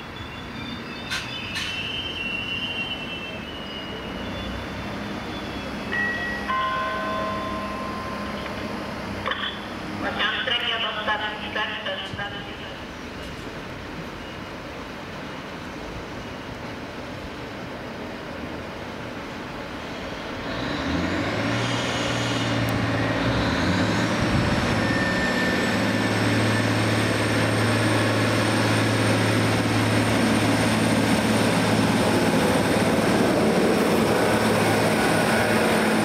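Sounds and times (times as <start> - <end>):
train engine droning: 0.0 - 36.0.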